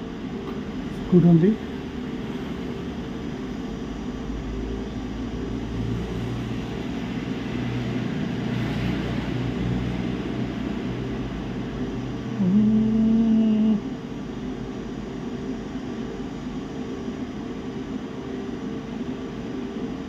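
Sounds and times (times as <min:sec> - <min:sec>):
machine hum with fan noise: 0:00.0 - 0:20.0.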